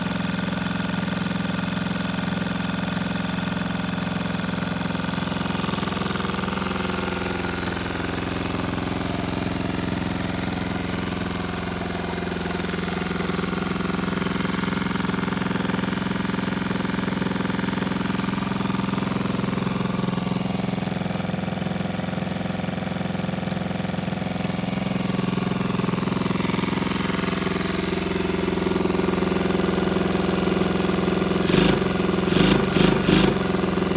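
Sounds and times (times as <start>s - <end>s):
small engine idling: 0.0s - 33.9s.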